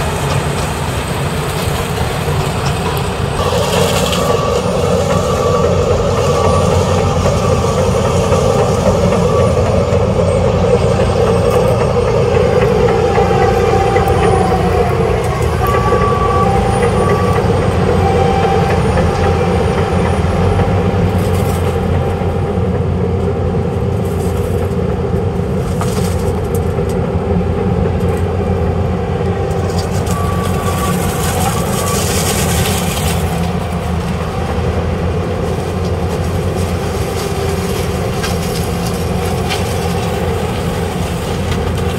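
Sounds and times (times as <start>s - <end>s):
harvester diesel engine: 0.0s - 41.9s
tractor engine: 0.0s - 41.9s.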